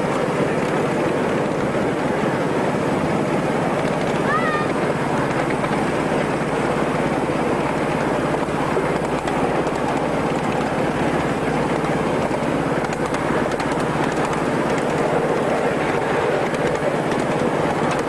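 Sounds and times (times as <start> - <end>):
miniature train rumbling on track: 0.0 - 18.0.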